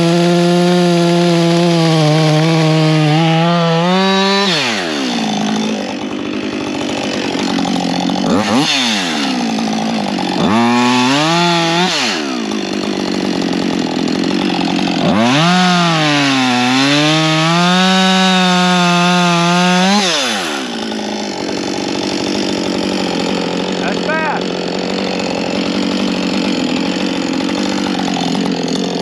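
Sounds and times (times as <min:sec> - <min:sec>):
chainsaw idling and revving: 0:00.0 - 0:29.0.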